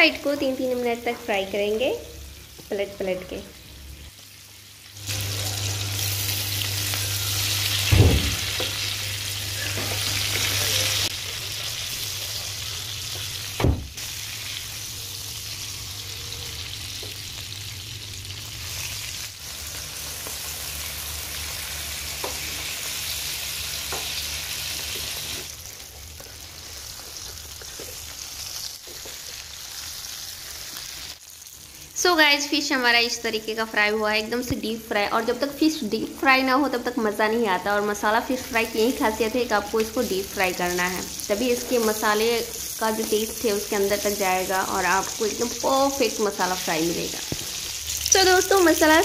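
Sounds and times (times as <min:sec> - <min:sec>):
oil sizzling: 0:00.0 - 0:49.0.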